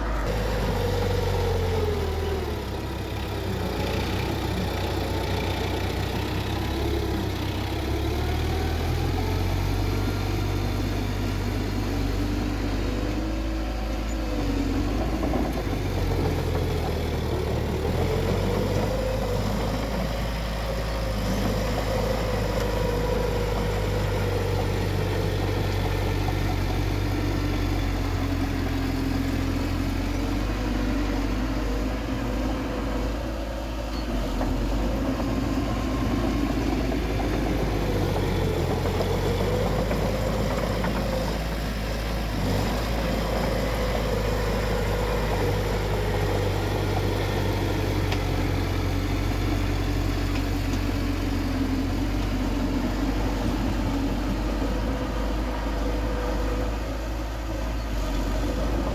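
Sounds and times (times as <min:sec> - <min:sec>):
bulldozer diesel engine: 0:00.0 - 0:58.9.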